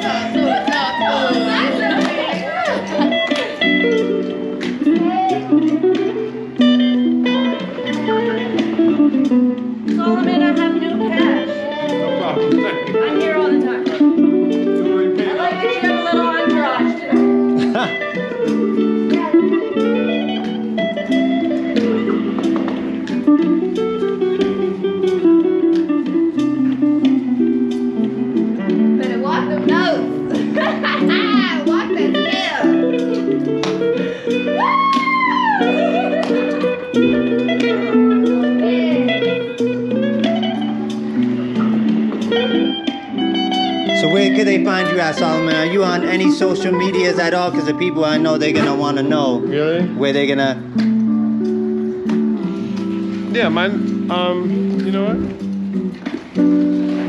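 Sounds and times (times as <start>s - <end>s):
bass line: 0.0s - 44.8s, 45.4s - 57.0s
guitar plucked notes and chords: 0.0s - 57.0s.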